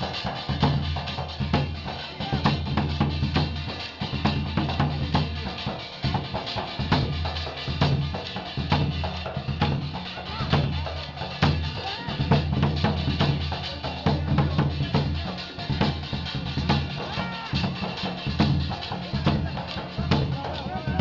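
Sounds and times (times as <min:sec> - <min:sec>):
quick drum strokes: 0:00.0 - 0:21.0.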